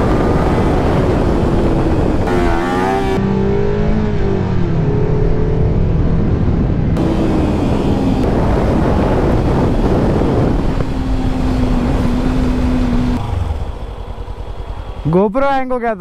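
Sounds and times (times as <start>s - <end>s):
wind rush on microphone: 0.0s - 3.2s, 3.9s - 14.4s
motorcycle engine: 0.0s - 16.0s.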